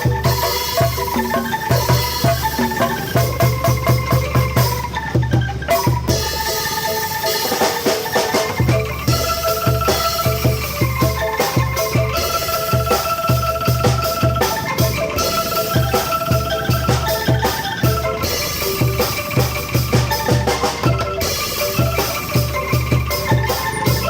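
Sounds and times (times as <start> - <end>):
ringing bamboo notes: 0.0 - 24.0
steady drum beat: 0.0 - 24.0.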